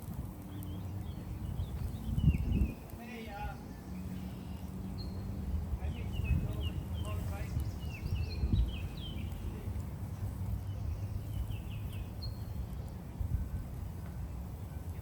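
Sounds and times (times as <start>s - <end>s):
steady low rumble: 0.0s - 15.0s
birds chirping: 0.2s - 15.0s.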